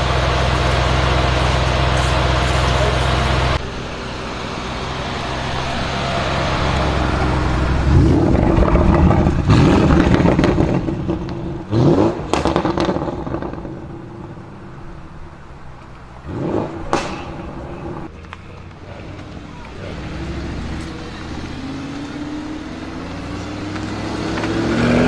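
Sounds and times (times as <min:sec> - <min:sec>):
car engine revving: 0:00.0 - 0:25.0
exhaust crackles: 0:00.0 - 0:25.0.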